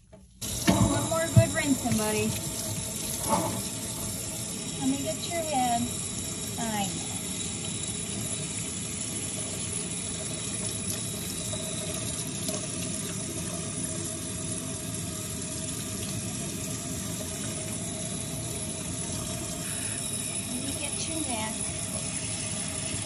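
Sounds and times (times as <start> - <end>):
faucet water splashing into sink: 0.4 - 23.0.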